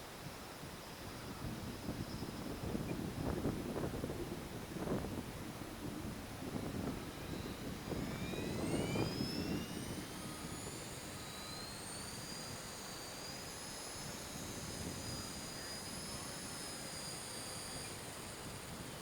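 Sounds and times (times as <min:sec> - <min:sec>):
model plane motor whine: 0:00.0 - 0:19.0
wind buffeting microphone: 0:00.2 - 0:12.8, 0:13.9 - 0:17.0.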